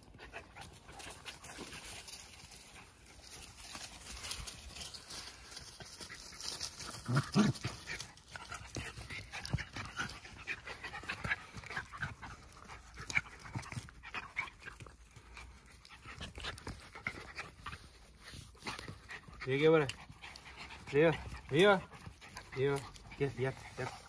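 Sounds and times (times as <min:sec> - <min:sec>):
dogs panting: 0:00.0 - 0:24.0.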